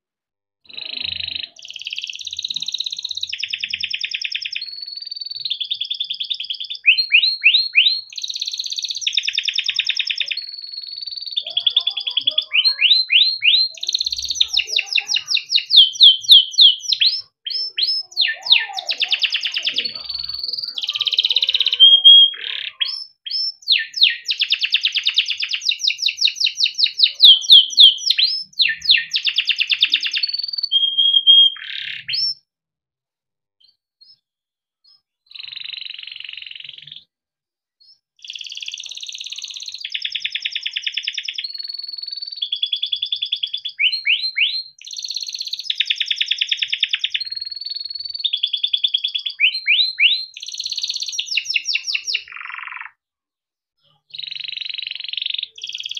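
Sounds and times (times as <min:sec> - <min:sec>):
canary singing: 0:00.7 - 0:32.4, 0:34.8 - 0:37.1, 0:37.8 - 0:53.0, 0:53.8 - 0:55.9.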